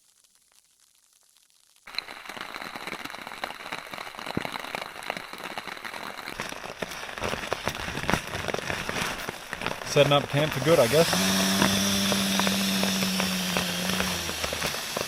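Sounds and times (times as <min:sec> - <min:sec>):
heavy rain falling: 0:01.9 - 0:15.0.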